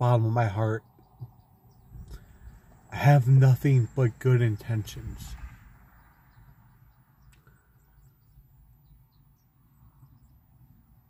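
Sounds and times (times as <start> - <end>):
faint high bird chirps: 0.8 - 10.9.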